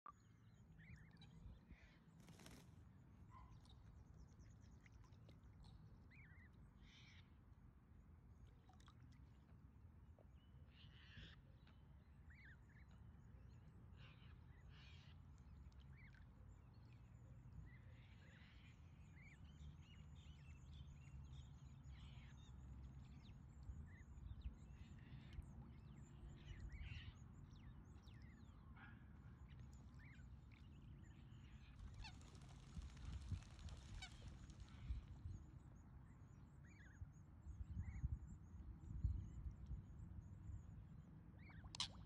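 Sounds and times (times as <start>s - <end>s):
faint low wind rumble: 0.1s - 42.0s
faint bird chirps: 3.3s - 7.4s, 10.7s - 42.0s.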